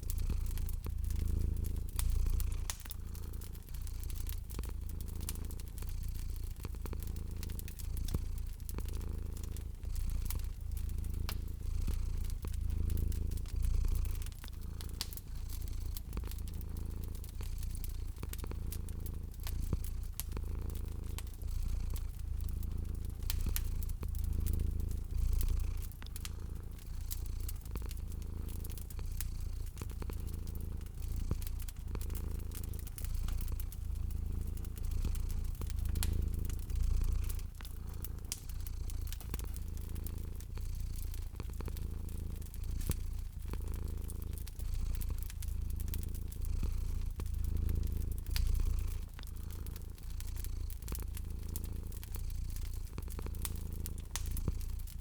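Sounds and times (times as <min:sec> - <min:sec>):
cat purring: 0:00.0 - 0:55.0
wood fire crackling and popping: 0:00.0 - 0:55.0.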